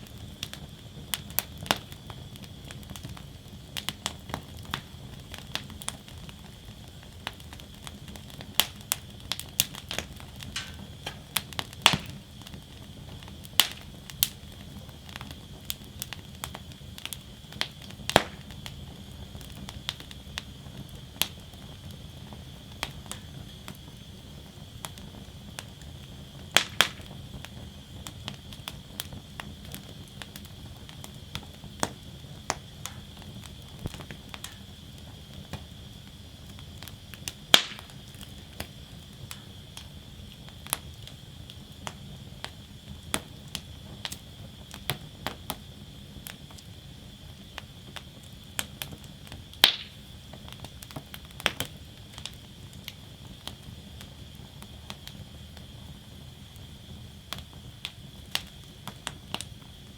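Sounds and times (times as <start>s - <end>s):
fire crackling and popping: 0.0s - 59.9s
wood fire rumbling: 0.0s - 59.9s.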